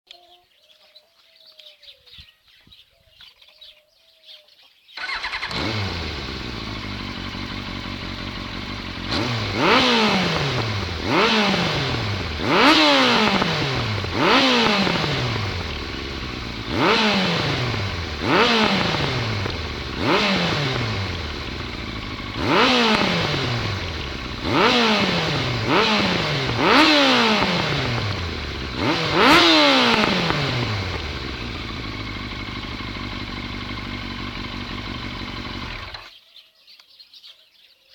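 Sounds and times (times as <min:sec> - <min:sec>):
motorcycle engine revving: 0:05.0 - 0:36.2.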